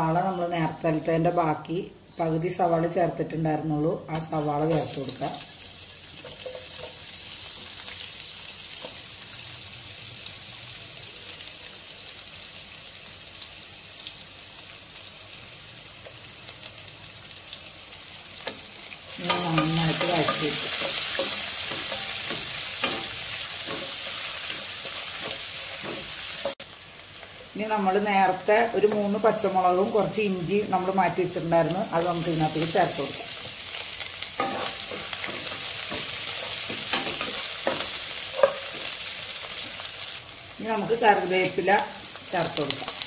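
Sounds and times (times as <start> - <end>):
onions sizzling in a frying pan: 4.1 - 43.0.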